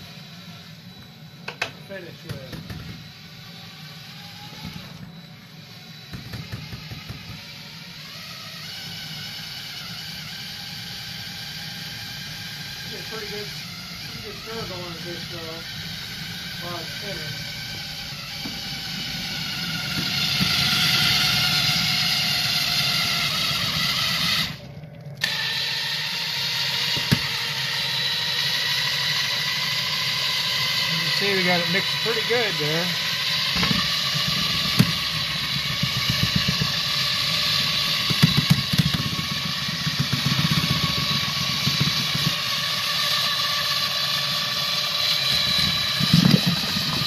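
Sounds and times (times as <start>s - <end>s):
cordless drill motor whining: 0.0s - 47.0s
drill click: 0.9s - 9.4s, 12.0s - 24.6s, 25.2s - 29.8s, 30.4s - 47.0s.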